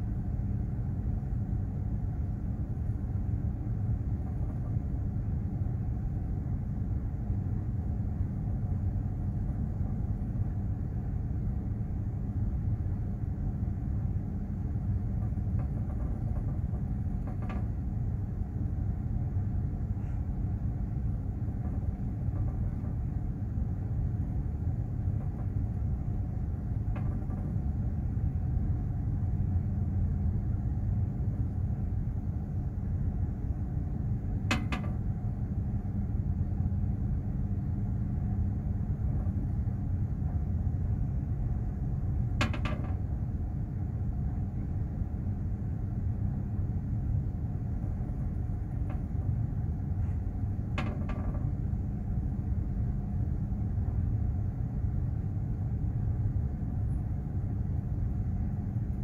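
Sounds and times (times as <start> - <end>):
ship machinery rumble and hum: 0.0 - 59.0.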